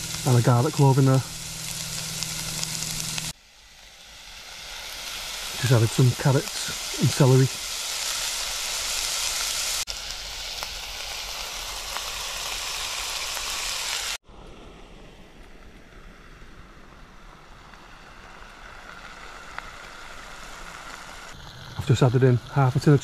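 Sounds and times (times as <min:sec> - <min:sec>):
stove hissing: 0:00.0 - 0:14.2, 0:16.4 - 0:23.0
vegetables sizzling in a pot: 0:00.0 - 0:14.2, 0:17.2 - 0:23.0.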